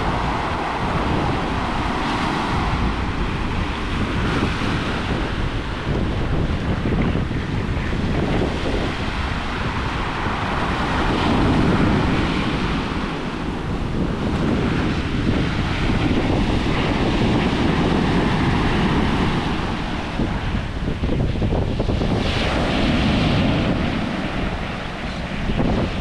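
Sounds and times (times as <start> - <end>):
surf washing over rocks: 0.0 - 26.0
wind buffeting microphone: 0.0 - 26.0.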